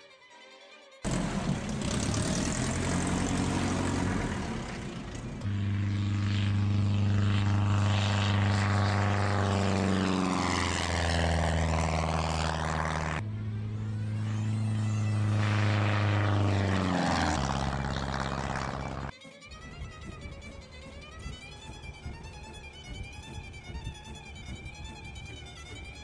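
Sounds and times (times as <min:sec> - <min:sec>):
propeller airplane engine drone: 0:01.0 - 0:26.0.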